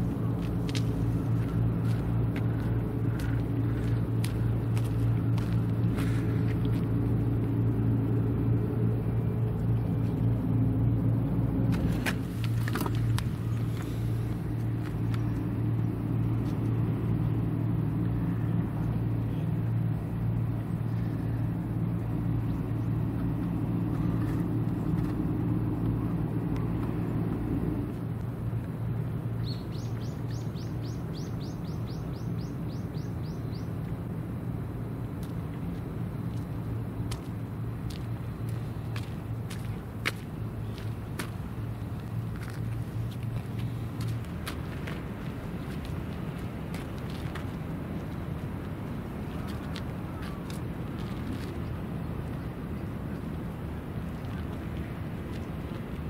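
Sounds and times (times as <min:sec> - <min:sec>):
low engine drone: 0:00.0 - 0:56.0.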